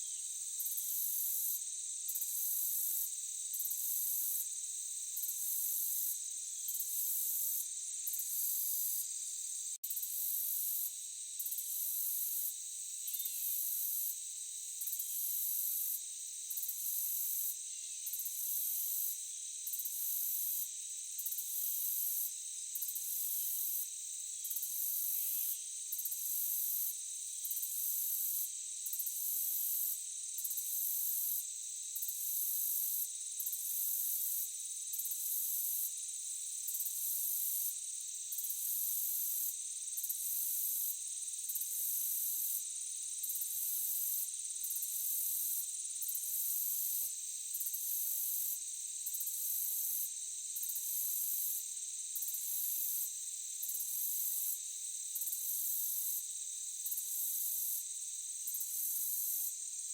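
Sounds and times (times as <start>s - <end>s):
crickets trilling: 0.0s - 49.3s.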